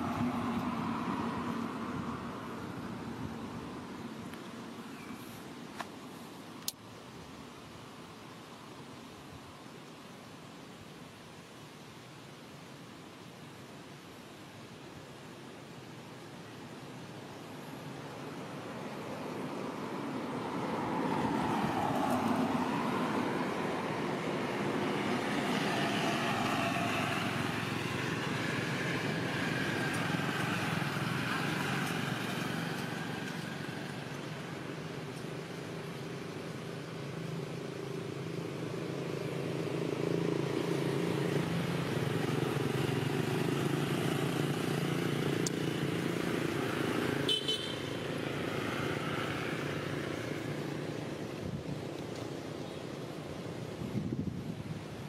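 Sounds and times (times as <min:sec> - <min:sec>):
passing vehicle engines: 0:00.0 - 0:06.3, 0:17.1 - 0:55.0.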